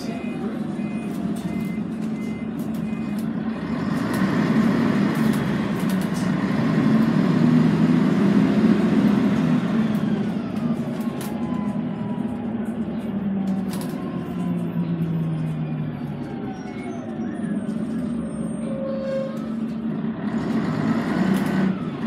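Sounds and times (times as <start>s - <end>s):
bus diesel engine drone: 0.0s - 22.0s.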